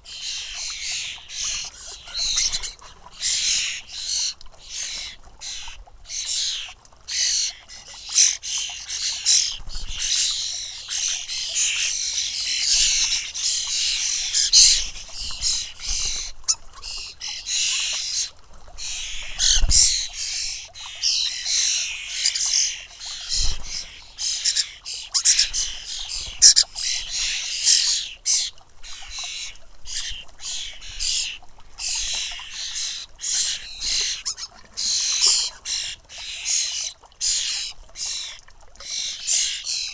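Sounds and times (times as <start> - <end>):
fledglings begging calls: 0.0 - 39.9.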